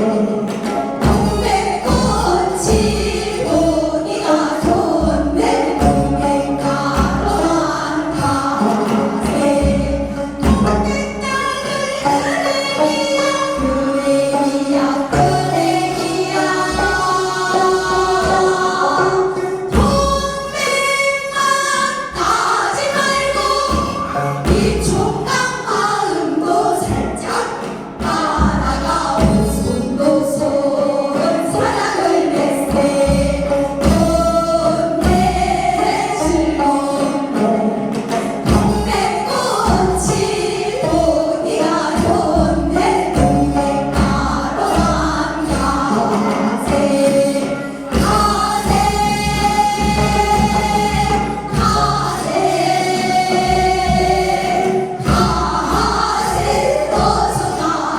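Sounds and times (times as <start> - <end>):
drum beat: 0.0 - 57.9
people singing folk song: 0.0 - 57.9.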